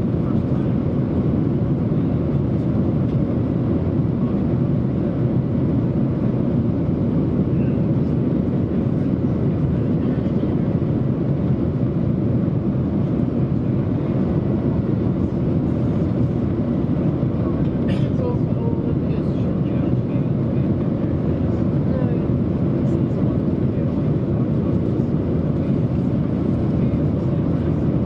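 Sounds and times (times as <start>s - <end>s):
jet cabin engine drone: 0.0s - 28.0s.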